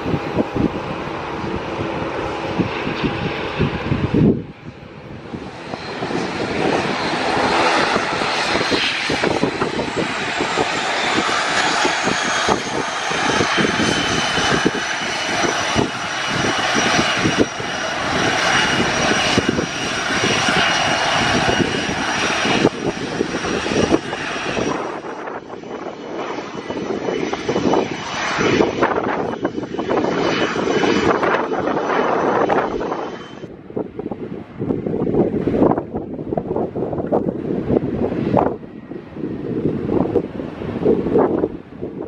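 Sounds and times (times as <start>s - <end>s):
jet engines whining: 0.0s - 42.0s.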